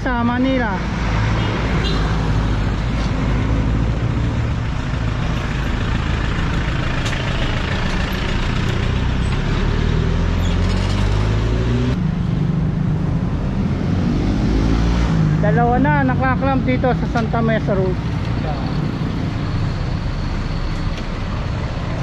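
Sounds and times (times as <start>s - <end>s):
vehicle engines humming: 0.0s - 22.0s.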